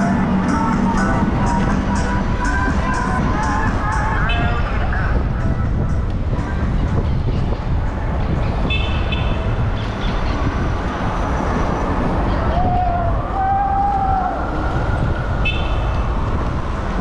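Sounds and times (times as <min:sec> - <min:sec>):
road rumble: 0:00.0 - 0:17.0
wind: 0:00.0 - 0:17.0.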